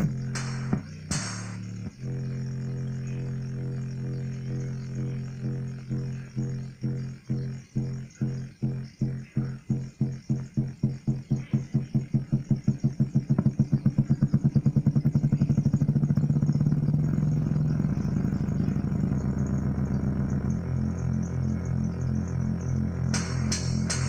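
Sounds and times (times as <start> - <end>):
low pulsing tone: 0.0 - 24.0.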